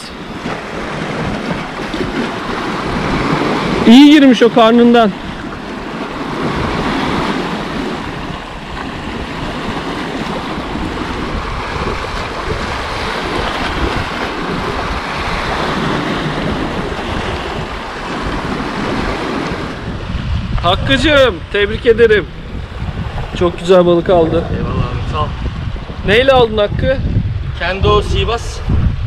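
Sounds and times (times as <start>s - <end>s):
waves washing against rocks: 0.0s - 25.9s
wind buffeting microphone: 0.0s - 29.0s.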